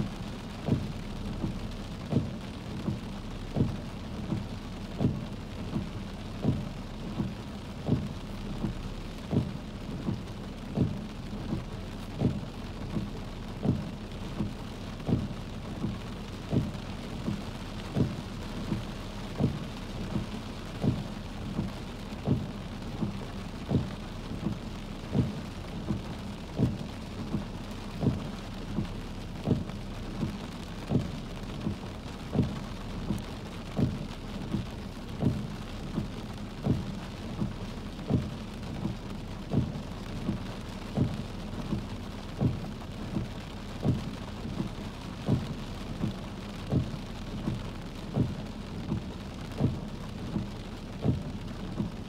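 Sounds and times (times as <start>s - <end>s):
heavy rain pattering on a car: 0.0s - 52.0s
windshield wipers knocking softly: 0.0s - 52.0s.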